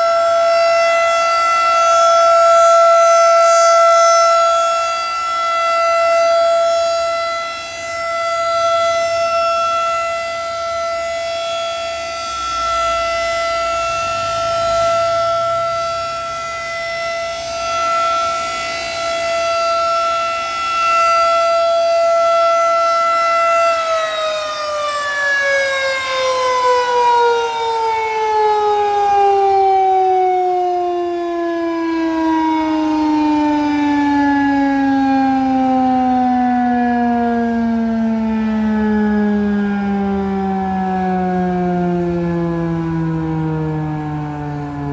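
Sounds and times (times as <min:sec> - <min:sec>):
rotating warning siren: 0:00.0 - 0:44.9.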